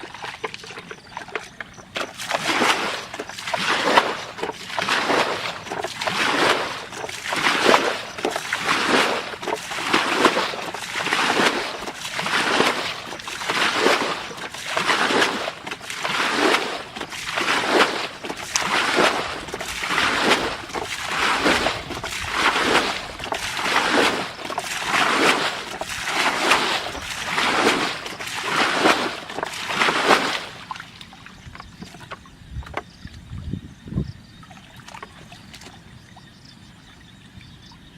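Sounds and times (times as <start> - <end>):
water sloshing and splashing: 0.0 - 37.9.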